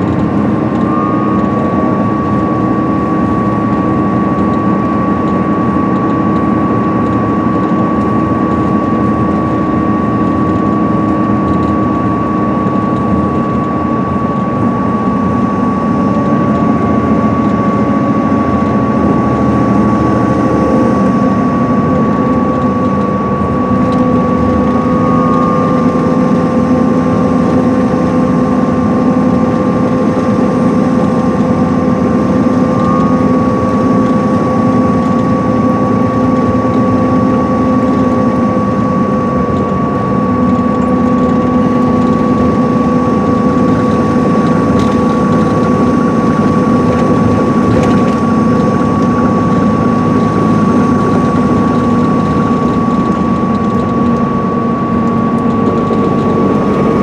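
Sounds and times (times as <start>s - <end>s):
diesel engine running: 0.0s - 57.0s
road and tyre noise: 0.0s - 57.0s
steady high whine: 0.0s - 57.0s.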